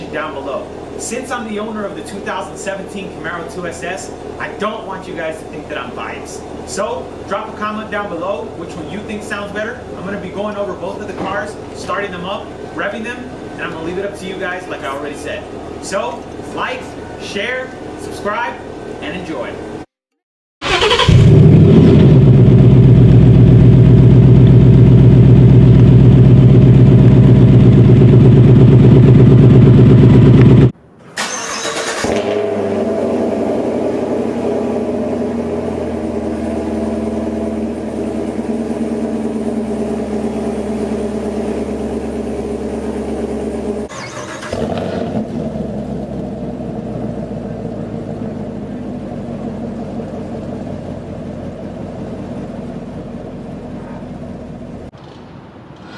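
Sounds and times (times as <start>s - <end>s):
sports car engine idling: 0.0s - 18.0s, 21.1s - 30.8s, 32.5s - 43.9s, 44.6s - 54.9s.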